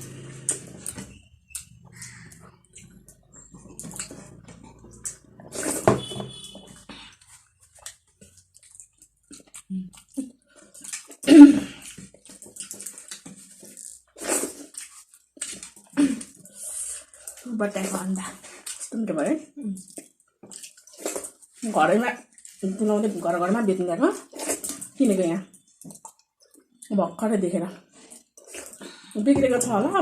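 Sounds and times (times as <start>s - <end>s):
chewing and mouth noises: 0.1s - 5.8s, 6.7s - 18.9s, 19.8s - 21.6s, 24.2s - 26.9s, 27.9s - 29.7s.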